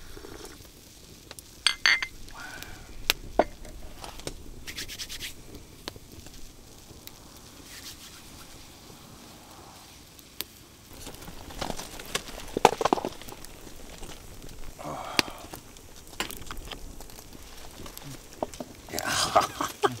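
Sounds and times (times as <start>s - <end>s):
wood fire crackling and popping: 0.0s - 20.0s
rustling and shuffling: 0.3s - 20.0s.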